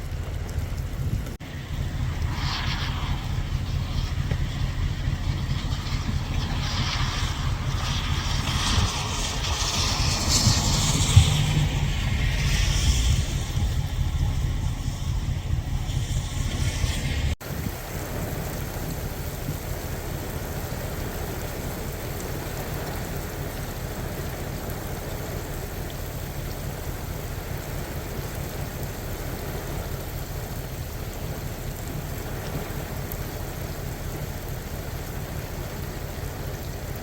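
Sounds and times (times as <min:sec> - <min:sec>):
heavy rain: 0:00.0 - 0:37.0
low rumble: 0:00.0 - 0:37.0.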